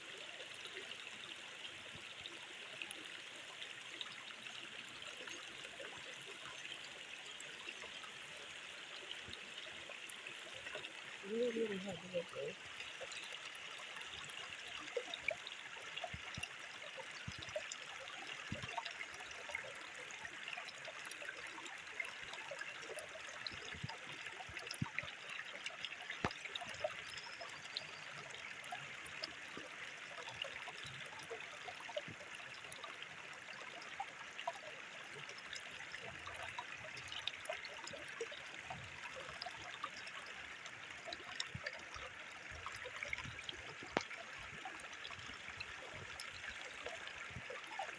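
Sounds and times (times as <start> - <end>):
stream trickling over rock: 0.0 - 47.9.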